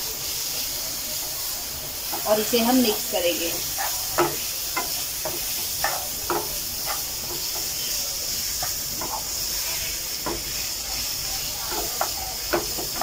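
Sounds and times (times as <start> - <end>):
vegetables sizzling in oil: 0.0 - 13.0
spatula scraping a pan: 1.1 - 13.0.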